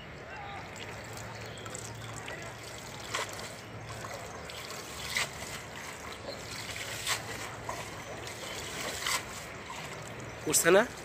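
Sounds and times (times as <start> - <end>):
water splashes: 0.1 - 11.0
river water sloshing: 0.7 - 11.0.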